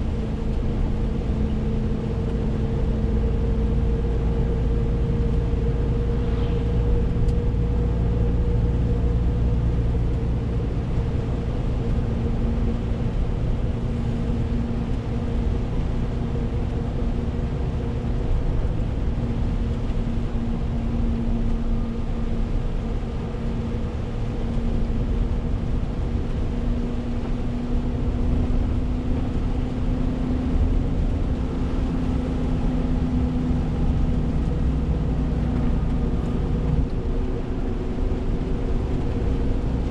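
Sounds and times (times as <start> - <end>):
road noise hiss: 0.0 - 39.9
truck diesel engine drone: 0.0 - 39.9.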